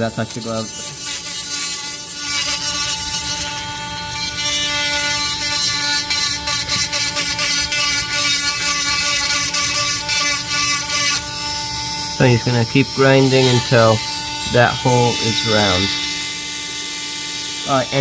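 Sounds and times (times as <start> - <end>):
rotary tool grinding: 0.0 - 18.0.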